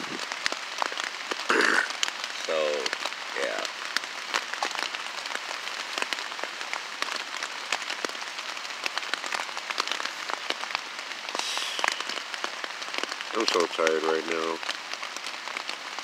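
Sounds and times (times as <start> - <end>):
rain hitting a tarp: 0.0 - 16.0.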